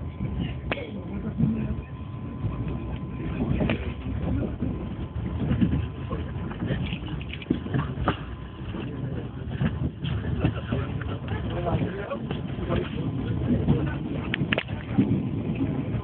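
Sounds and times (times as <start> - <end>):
train clacks and knocks: 0.0 - 16.0
train rumbling: 0.0 - 16.0.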